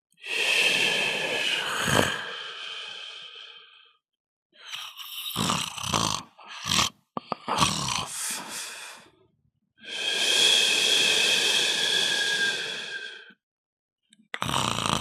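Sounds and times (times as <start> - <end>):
person snoring: 0.2 - 3.9, 4.6 - 9.1, 9.8 - 13.3, 14.4 - 15.0.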